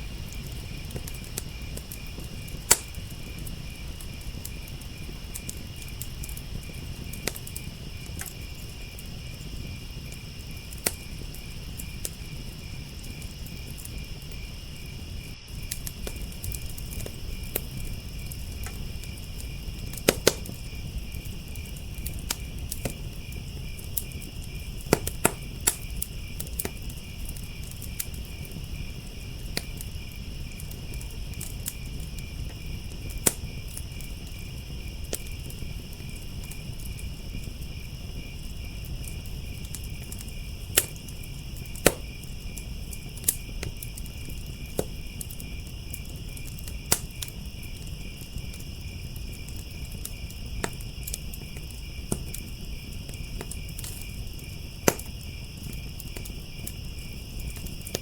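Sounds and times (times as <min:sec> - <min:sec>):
crickets trilling: 0:00.0 - 0:58.0
wood fire crackling and popping: 0:00.0 - 0:58.0.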